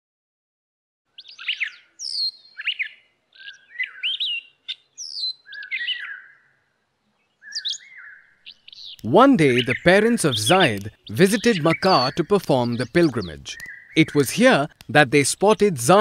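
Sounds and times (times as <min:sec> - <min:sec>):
birds chirping: 0:01.1 - 0:16.0.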